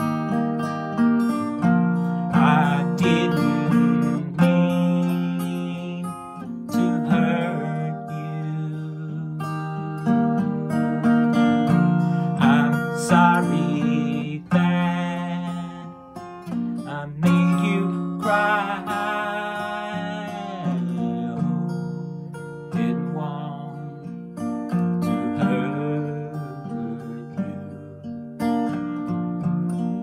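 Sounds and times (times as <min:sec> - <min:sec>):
acoustic guitar strumming: 0:00.0 - 0:30.0
man singing: 0:01.7 - 0:28.2.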